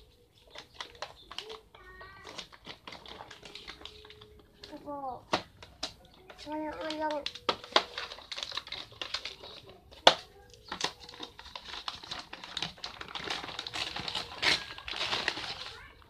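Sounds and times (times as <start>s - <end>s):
paper packaging crinkling: 0.0s - 16.0s.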